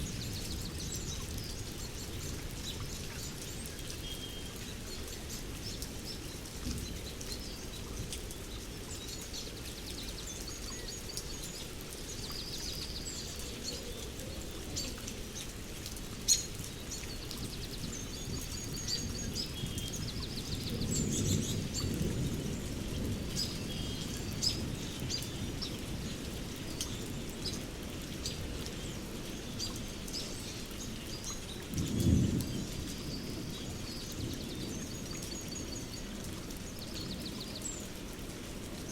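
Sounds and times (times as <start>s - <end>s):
rain hiss: 0.0s - 38.9s
songbirds chirping: 0.0s - 38.9s.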